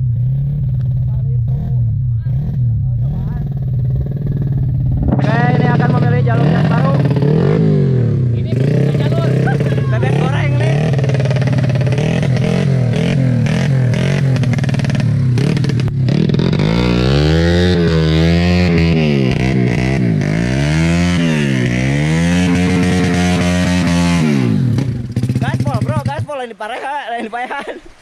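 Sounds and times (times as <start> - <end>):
dirt bike engine revving: 0.0 - 26.5.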